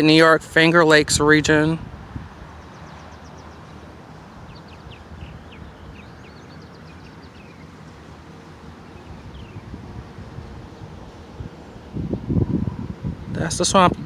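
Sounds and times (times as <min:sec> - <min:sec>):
low background rumble: 0:01.4 - 0:14.0
small birds chirping: 0:02.2 - 0:13.9.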